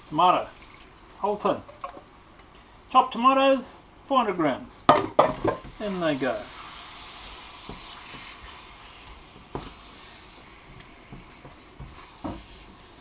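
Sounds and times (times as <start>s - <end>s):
sizzling in a hot pot: 0.0s - 2.9s, 4.9s - 13.0s.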